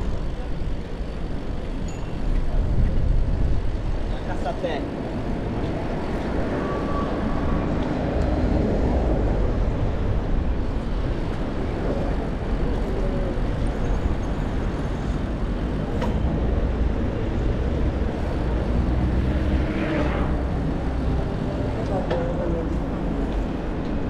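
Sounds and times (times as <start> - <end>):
passing cars: 0.0 - 24.0
wind rumble on microphone: 0.0 - 24.0.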